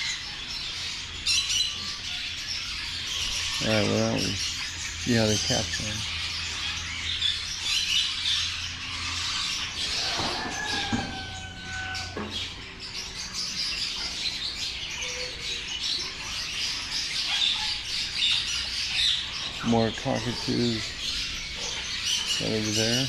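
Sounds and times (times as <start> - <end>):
aviary birds chirping: 0.0 - 23.0.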